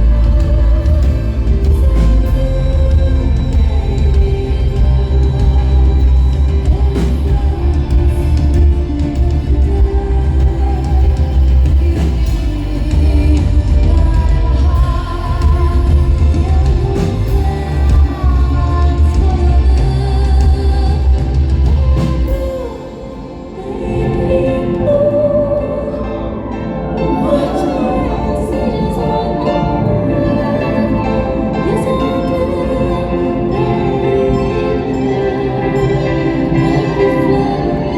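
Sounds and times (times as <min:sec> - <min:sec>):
live rock band playing: 0:00.0 - 0:37.9
person singing: 0:00.0 - 0:37.9.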